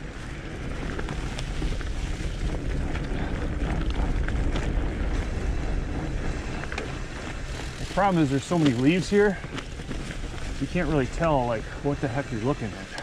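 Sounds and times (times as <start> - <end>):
crackles and rattles: 0.0 - 13.0
tyres rumbling over leaves: 0.0 - 13.0.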